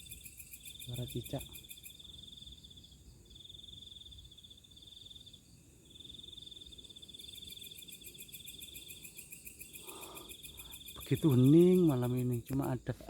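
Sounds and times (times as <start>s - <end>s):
insects and frogs calling: 0.0s - 13.0s.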